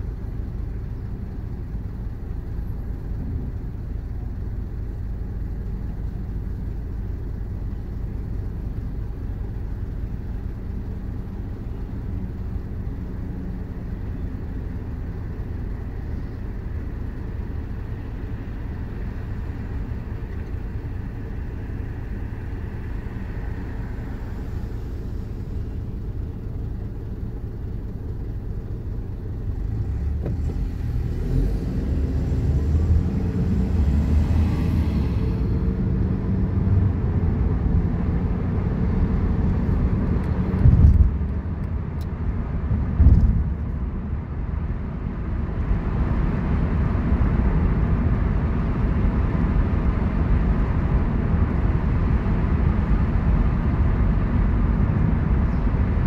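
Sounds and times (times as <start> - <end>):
car engine idling inside cabin: 0.0 - 30.9, 35.8 - 56.0.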